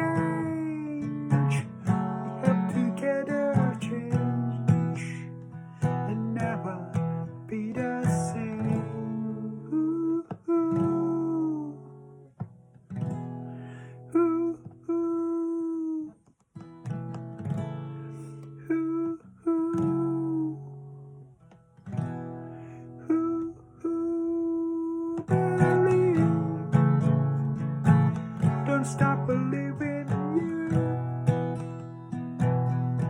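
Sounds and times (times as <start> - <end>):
acoustic guitar chords ringing: 0.0 - 15.9, 16.6 - 33.0.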